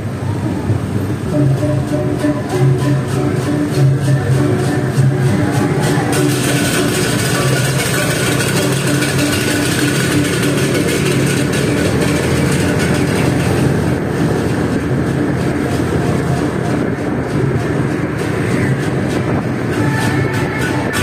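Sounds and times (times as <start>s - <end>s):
street traffic: 0.0s - 21.0s
motor scooter engine running: 1.0s - 21.0s.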